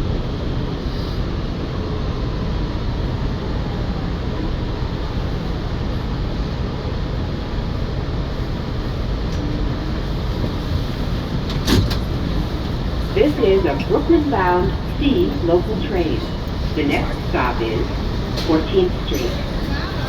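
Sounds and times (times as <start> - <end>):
subway car rumble and hiss: 0.0 - 20.0.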